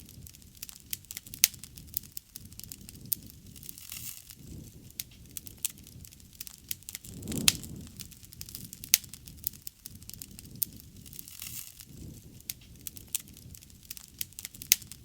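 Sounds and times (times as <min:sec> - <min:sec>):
bonfire crackling and popping: 0:00.0 - 0:15.0
low rush of flame: 0:00.0 - 0:15.0.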